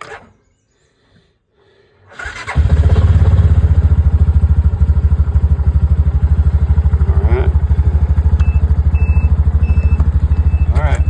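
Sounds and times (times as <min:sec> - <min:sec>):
engine cranking and idling: 0:02.1 - 0:11.0.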